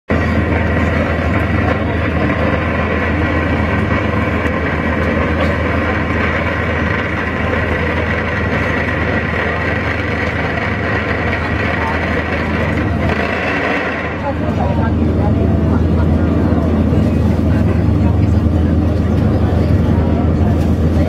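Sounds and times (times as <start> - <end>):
ferry engines droning: 0.1 - 21.0.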